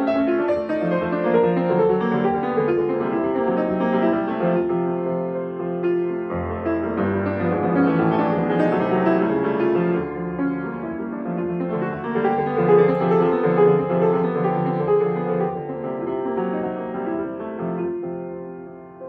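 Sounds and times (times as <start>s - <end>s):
grand piano playing: 0.0s - 19.0s.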